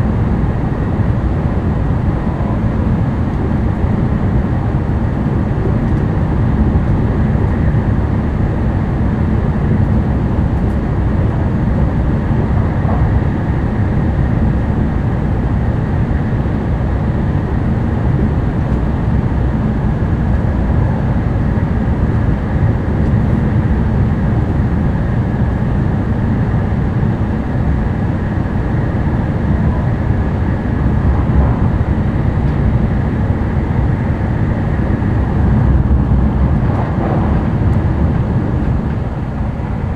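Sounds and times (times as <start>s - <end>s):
train cabin rumble: 0.0s - 39.9s.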